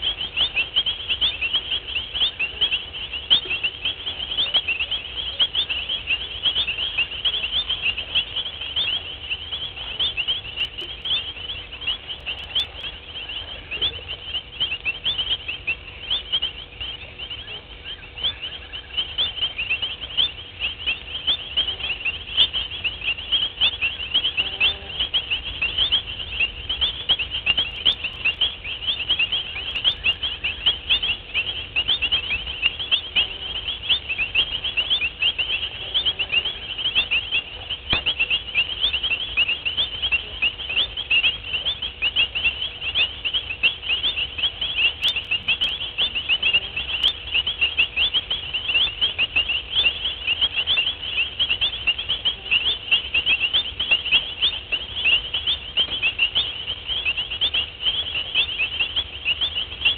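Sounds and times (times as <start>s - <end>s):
faint low rumble: 0.0s - 59.9s
high-pitched animal chirps: 0.0s - 59.9s.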